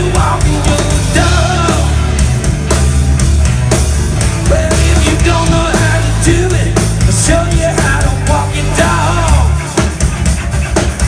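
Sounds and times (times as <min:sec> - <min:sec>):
drum kit hits: 0:00.0 - 0:11.0
electric guitar: 0:00.0 - 0:11.0
heavy bass line: 0:00.0 - 0:11.0.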